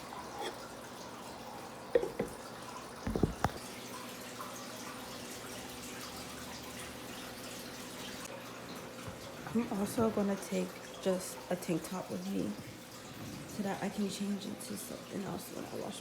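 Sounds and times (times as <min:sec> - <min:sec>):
water dripping from a tap: 0:00.0 - 0:16.0.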